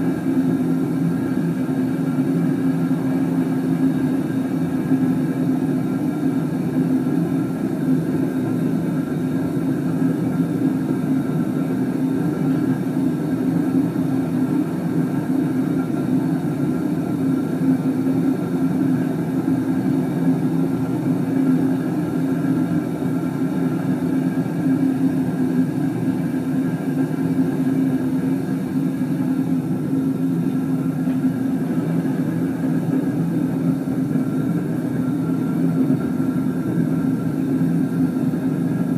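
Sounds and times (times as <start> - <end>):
gas burner roaring: 0.0 - 38.9.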